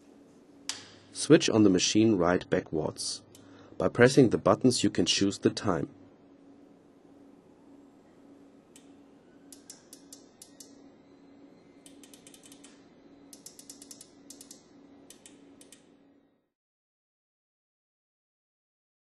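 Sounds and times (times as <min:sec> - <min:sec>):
faint low hum: 0:00.0 - 0:16.5.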